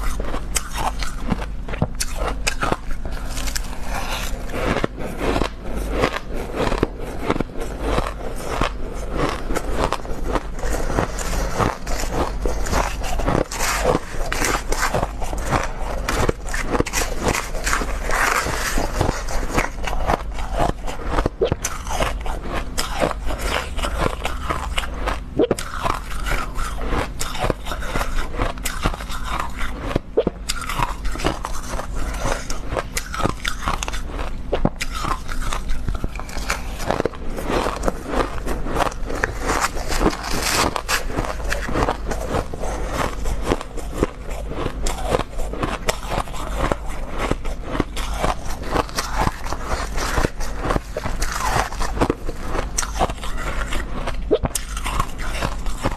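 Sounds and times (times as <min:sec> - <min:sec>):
crunching and chewing ice: 0:00.0 - 0:55.9.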